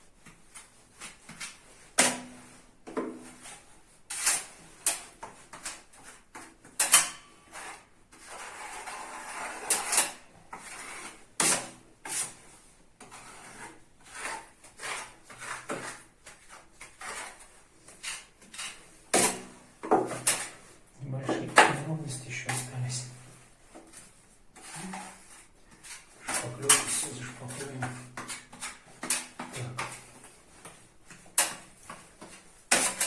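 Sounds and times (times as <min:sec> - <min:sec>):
putty knife scraping filler: 0:00.2 - 0:33.0.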